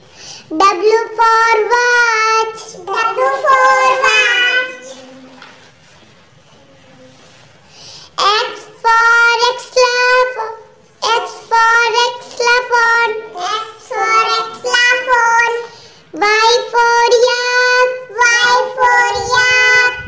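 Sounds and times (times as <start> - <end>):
child singing: 0.5 - 5.4, 8.2 - 20.0.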